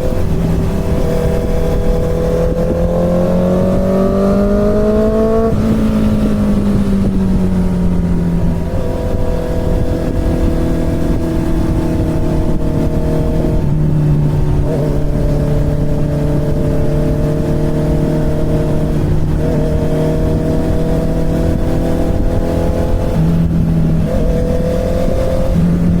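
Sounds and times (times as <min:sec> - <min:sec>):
motorcycle engine running: 0:00.0 - 0:26.0
road rumble: 0:00.0 - 0:26.0
wind: 0:00.0 - 0:26.0.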